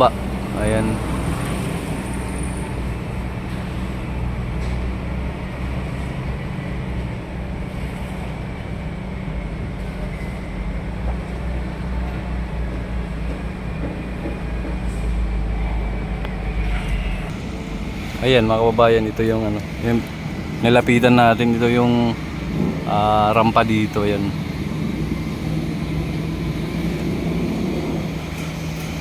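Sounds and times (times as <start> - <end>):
low engine hum: 0.0 - 29.0
roadside traffic noise: 0.0 - 29.0.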